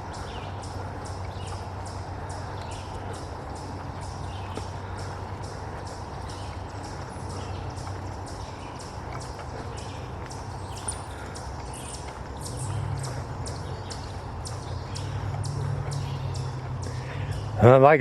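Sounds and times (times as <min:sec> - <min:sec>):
footsteps on dirt trail: 0:00.0 - 0:18.0.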